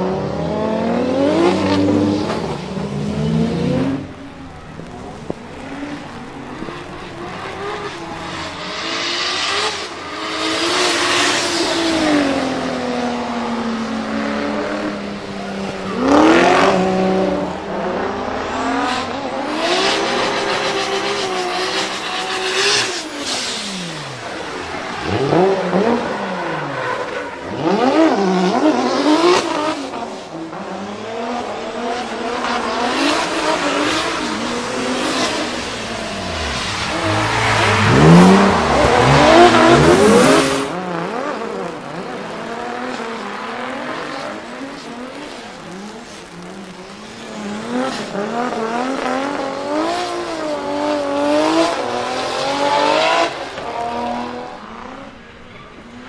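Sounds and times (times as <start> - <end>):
car engine revving: 0.0 - 55.4.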